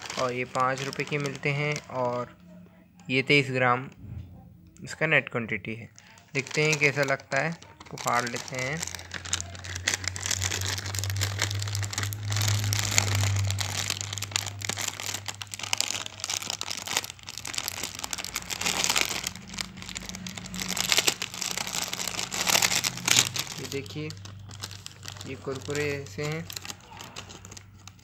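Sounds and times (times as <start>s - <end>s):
plastic snack packet crinkling: 0.0s - 4.0s, 4.8s - 28.0s.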